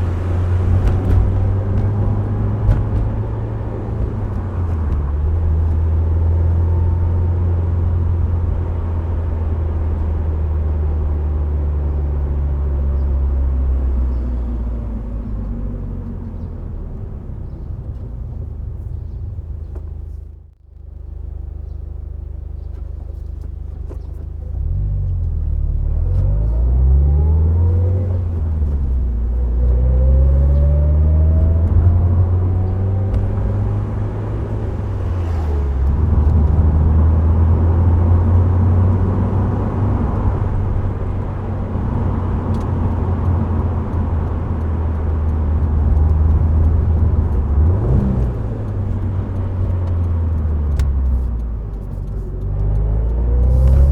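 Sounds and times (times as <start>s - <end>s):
car engine accelerating through gears: 0.0s - 53.9s.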